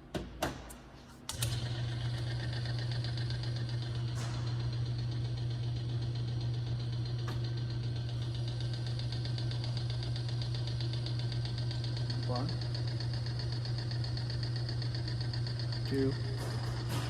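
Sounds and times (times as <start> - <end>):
electric motor humming: 1.3 - 17.0.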